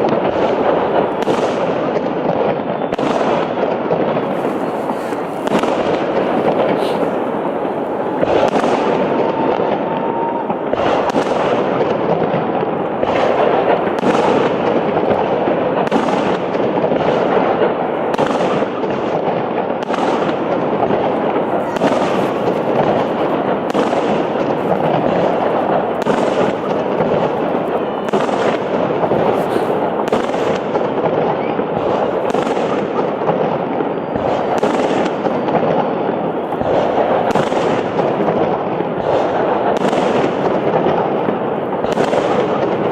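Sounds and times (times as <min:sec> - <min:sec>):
dense noise of firework bursts: 0:00.0 - 0:42.9
firework shells bursting: 0:00.0 - 0:42.9.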